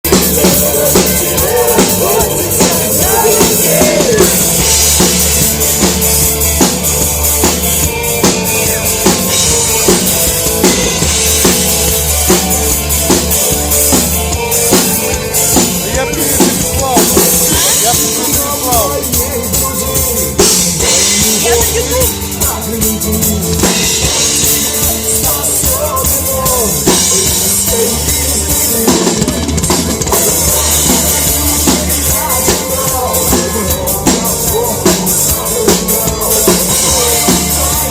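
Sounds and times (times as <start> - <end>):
music with drum kit beat: 0.0 - 37.9.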